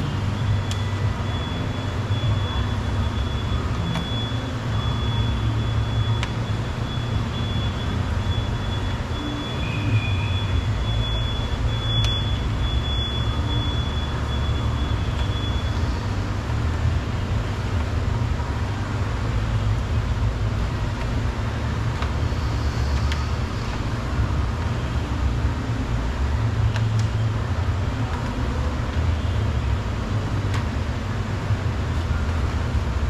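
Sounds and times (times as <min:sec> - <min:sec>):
workshop background rumble: 0:00.0 - 0:33.0.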